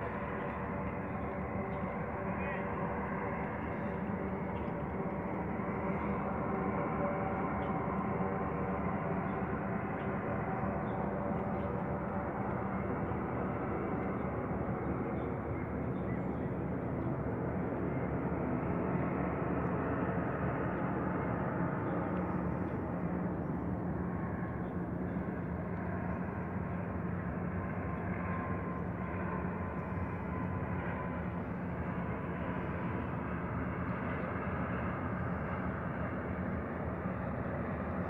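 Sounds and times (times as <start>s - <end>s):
propeller plane drone: 0.0s - 38.0s.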